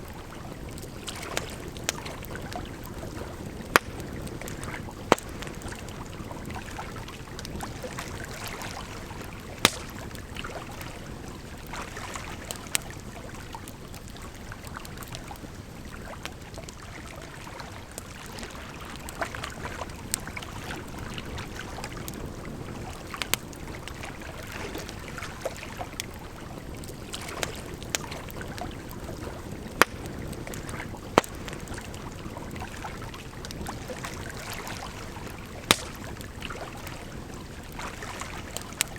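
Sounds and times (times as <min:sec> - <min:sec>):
campfire crackling: 0:00.0 - 0:38.9
flowing water: 0:00.0 - 0:38.9.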